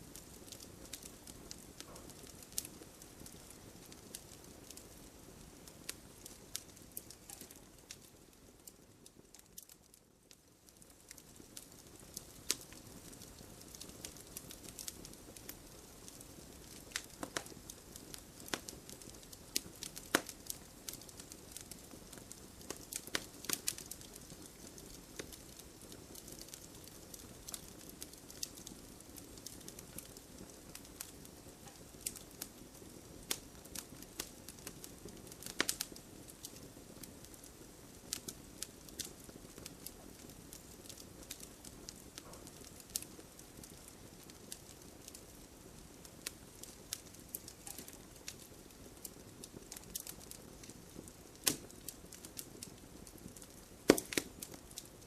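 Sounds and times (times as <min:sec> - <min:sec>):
campfire wood crackling and popping: 0:00.0 - 0:55.0
low rush of flames: 0:00.0 - 0:55.0.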